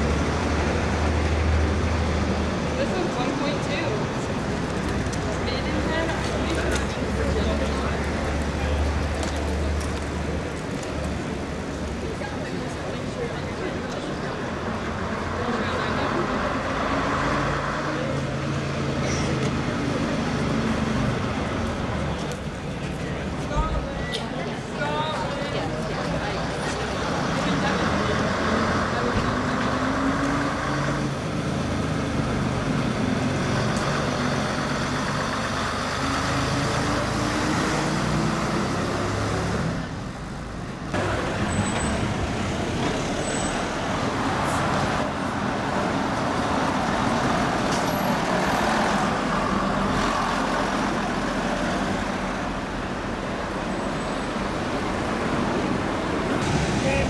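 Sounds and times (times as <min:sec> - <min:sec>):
bus diesel engines running: 0:00.0 - 0:57.0
street traffic: 0:00.0 - 0:57.0.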